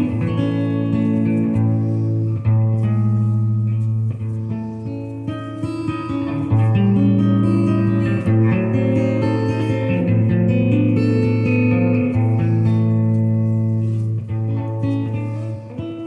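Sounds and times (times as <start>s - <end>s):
electric guitar with tape echo: 0.0s - 16.0s.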